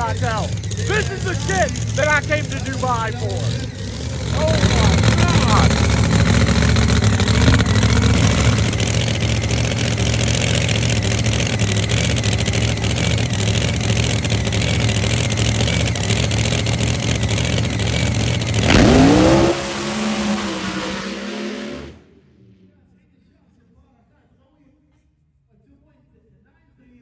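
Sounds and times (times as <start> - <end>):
drag car engine rumbling and revving: 0.0 - 22.6.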